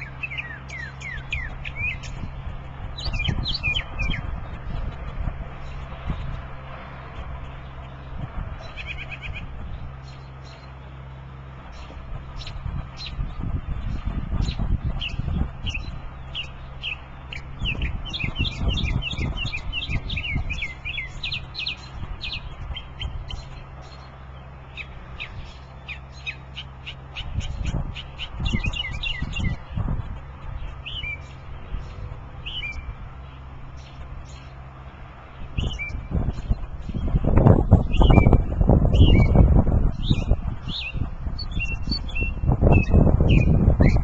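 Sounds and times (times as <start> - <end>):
small bird chirping: 0.0 - 6.4, 11.7 - 44.0
low rumble: 0.0 - 44.0.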